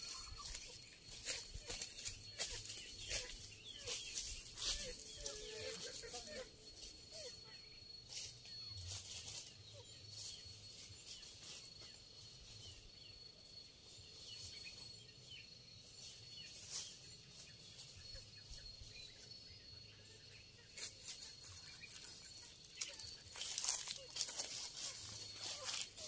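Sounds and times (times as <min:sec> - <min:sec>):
faint bird chirps: 0:00.0 - 0:26.0
high-pitched insect drone: 0:00.0 - 0:26.0.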